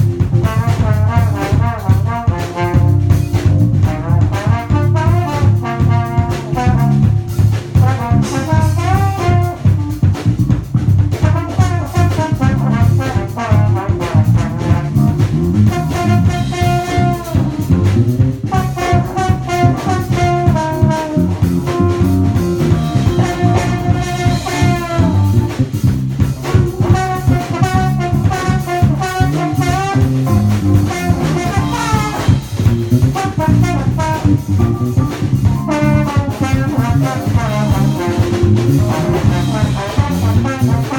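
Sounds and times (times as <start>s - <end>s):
bass: 0.0s - 40.9s
brass horns melody: 0.0s - 40.9s
drum kit: 0.0s - 40.9s.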